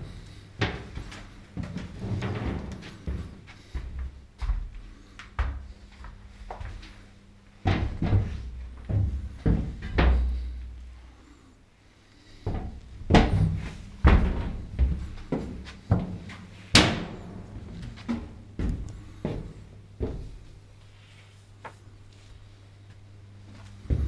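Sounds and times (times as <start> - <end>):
footsteps on steel deck plates: 0.0 - 11.1, 12.2 - 20.9, 21.6 - 24.0
faint low machinery hum: 0.0 - 24.0.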